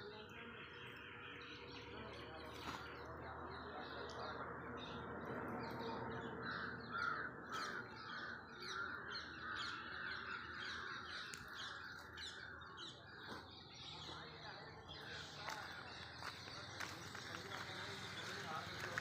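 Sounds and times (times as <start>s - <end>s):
birds chirping: 0.0s - 19.0s
harsh bird calls: 0.0s - 19.0s.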